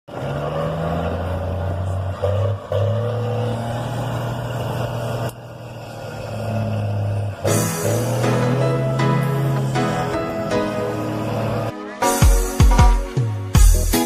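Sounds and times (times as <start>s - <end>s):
truck engine brake drone: 0.1s - 11.7s.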